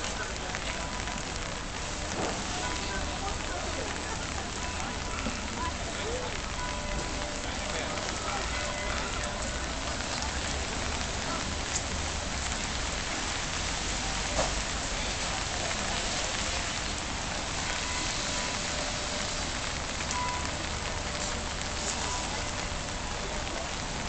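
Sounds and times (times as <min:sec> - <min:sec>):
sharp rain ticks: 0:00.0 - 0:24.0
steady rain on paving and tents: 0:00.0 - 0:24.0.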